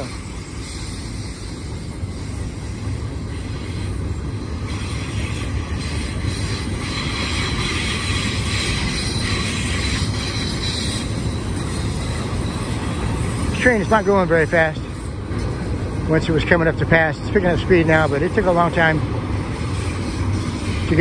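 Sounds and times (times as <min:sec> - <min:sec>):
train wheels rumbling on rail: 0:00.0 - 0:21.0
wheel squeal: 0:00.0 - 0:21.0.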